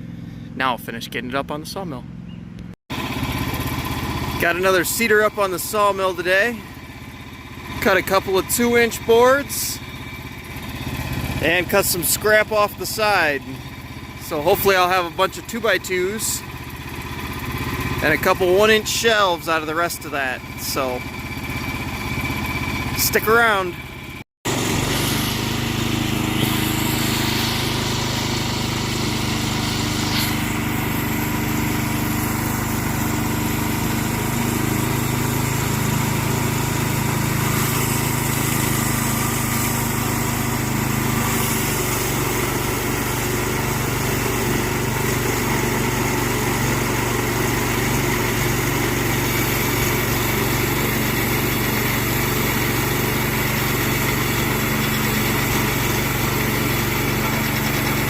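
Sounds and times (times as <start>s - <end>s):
sawmill engine running: 0.0s - 58.0s
bandsaw sawing through log: 3.8s - 6.6s, 7.8s - 9.8s, 11.0s - 13.6s, 14.2s - 16.5s, 17.7s - 21.0s, 23.0s - 23.8s, 24.5s - 58.0s.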